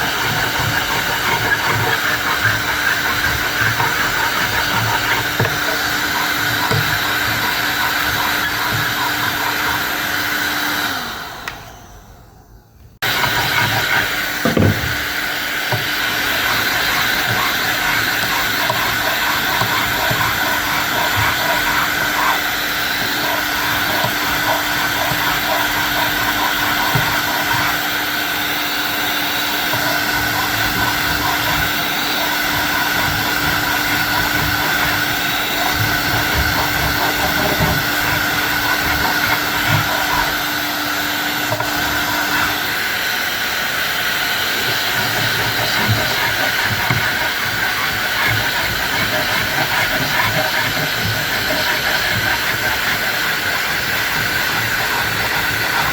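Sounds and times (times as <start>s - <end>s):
workshop machine motor whir: 0.0s - 55.9s.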